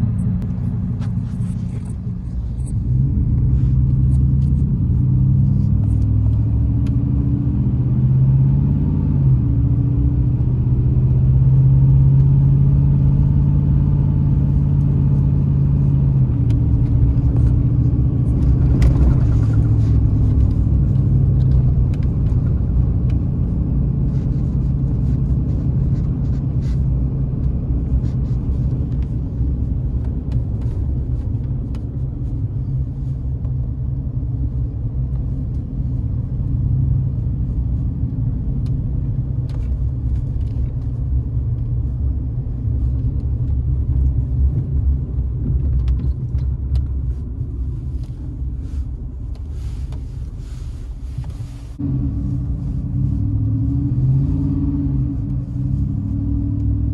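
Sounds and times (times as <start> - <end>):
engine and tyre rumble: 0.0 - 56.9.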